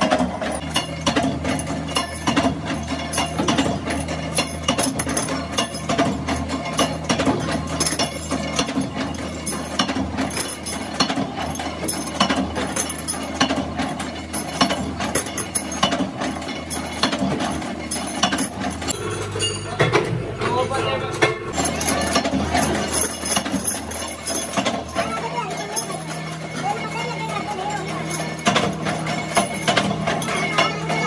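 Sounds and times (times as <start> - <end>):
mechanical clicks and clatter: 0.0 - 19.0, 21.5 - 31.0
machinery low hum: 0.0 - 31.0.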